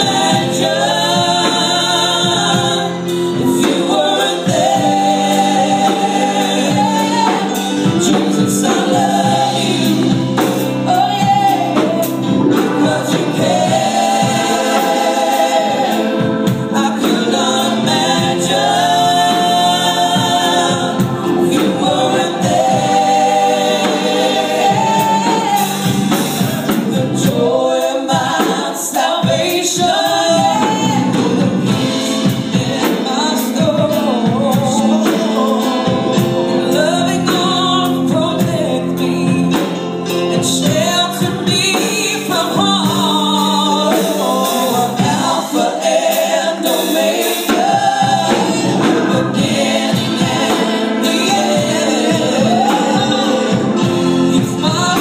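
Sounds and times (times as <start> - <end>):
live band with keyboard: 0.0 - 55.0
woman singing gospel: 0.0 - 55.0.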